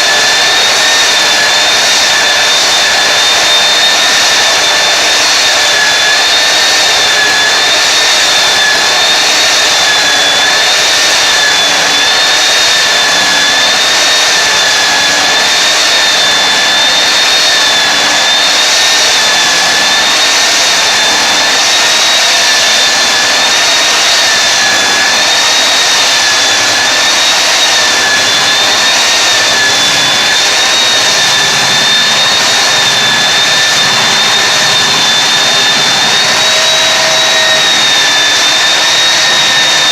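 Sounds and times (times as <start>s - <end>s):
belt sander motor whine: 0.0s - 39.9s.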